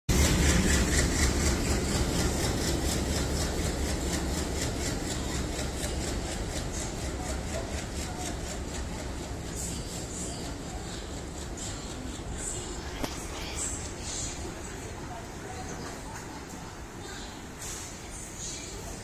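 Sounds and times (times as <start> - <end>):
train wheels clicking on track: 0.1 - 16.9
diesel locomotive engine rumbling: 0.1 - 19.0.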